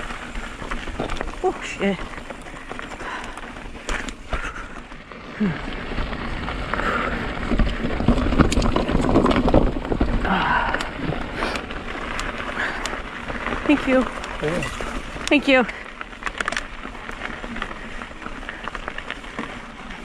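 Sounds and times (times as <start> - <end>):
bike rattling with sharp knocks: 0.0 - 20.0
bike tyres crunching on rock: 0.0 - 20.0.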